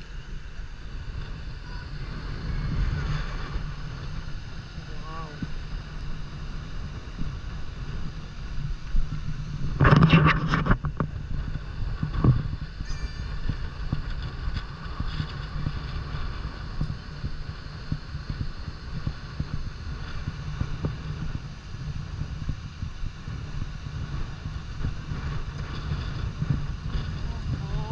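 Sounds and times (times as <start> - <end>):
wind on microphone: 0.0 - 27.9.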